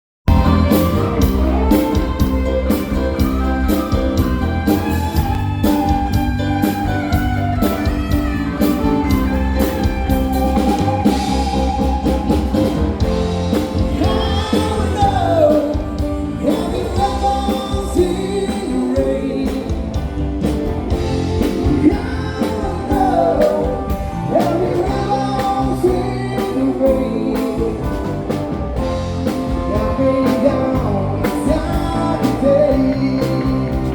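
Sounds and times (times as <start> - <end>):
rock band playing: 0.2 - 33.9
person singing: 0.3 - 20.3, 20.9 - 33.9.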